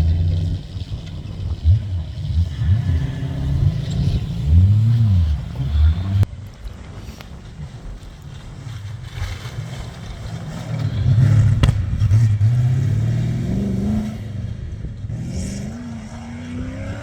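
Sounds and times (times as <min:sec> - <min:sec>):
off-road racing engine revving: 0:00.0 - 0:06.3, 0:08.5 - 0:17.0.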